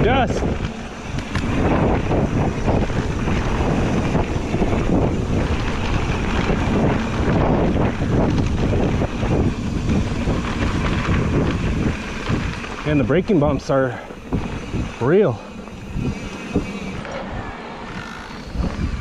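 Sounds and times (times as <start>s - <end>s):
bike tyres rumbling on dirt: 0.0s - 19.0s
wind buffeting microphone: 0.0s - 19.0s.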